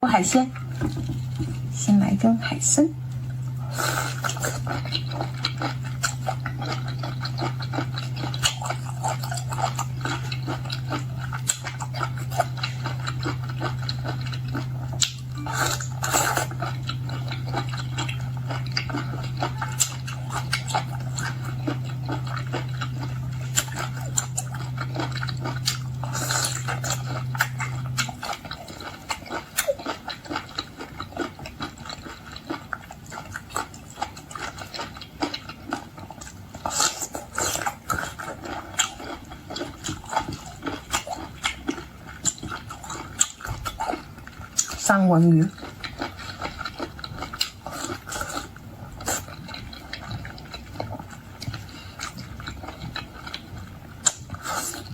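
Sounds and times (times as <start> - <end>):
steady low hum: 0.0 - 54.9
wet chewing and lip-smacking: 3.1 - 54.9.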